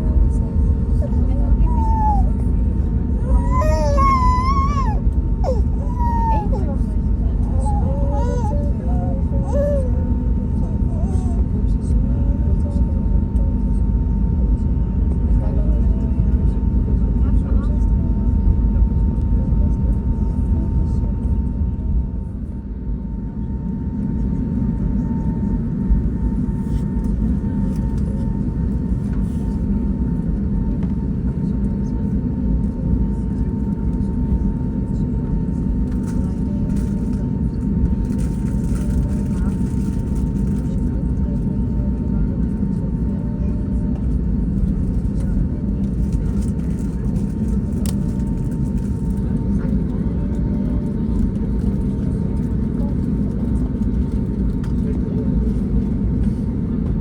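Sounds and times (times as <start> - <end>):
low rumble in plane cabin: 0.0 - 57.0.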